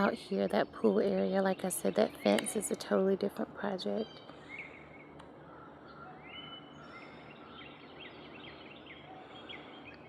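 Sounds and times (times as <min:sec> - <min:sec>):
steady background noise: 0:00.0 - 0:10.0
wild birds singing: 0:00.0 - 0:10.0.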